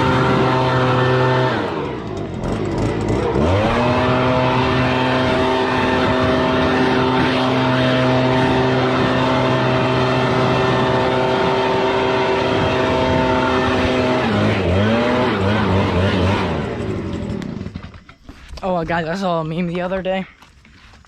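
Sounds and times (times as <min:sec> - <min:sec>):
small petrol engine at high speed: 0:00.0 - 0:19.8.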